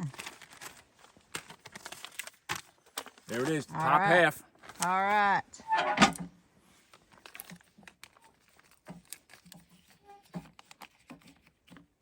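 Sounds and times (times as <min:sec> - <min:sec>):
handling noise rustling and clicks: 0:00.0 - 0:03.8, 0:04.5 - 0:12.0.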